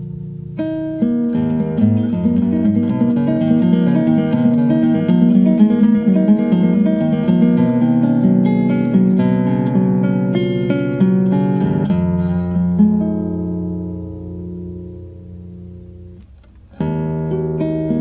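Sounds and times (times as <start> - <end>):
plucked guitar music: 0.0 - 18.0.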